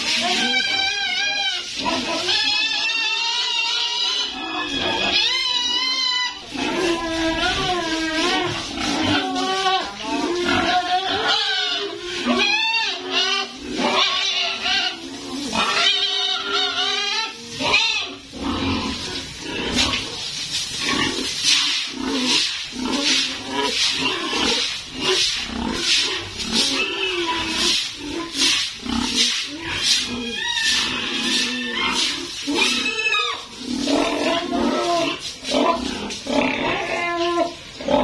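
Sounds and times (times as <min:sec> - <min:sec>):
pigs squealing: 0:00.0 - 0:38.0.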